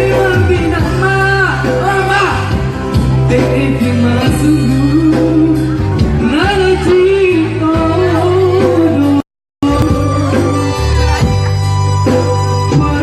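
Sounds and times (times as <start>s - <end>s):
man singing: 0.0s - 11.0s, 12.6s - 13.0s
instrumental accompaniment with bass: 0.0s - 13.0s.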